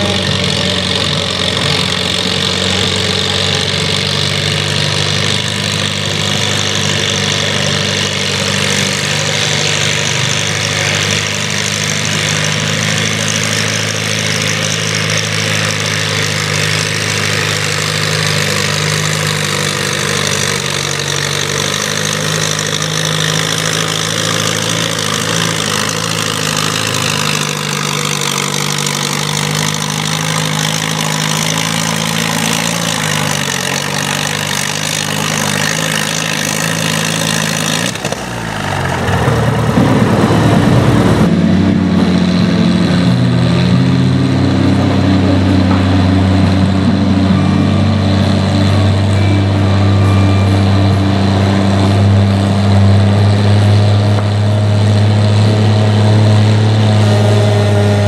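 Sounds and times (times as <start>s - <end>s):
tractor engine under load: 0.0s - 58.0s.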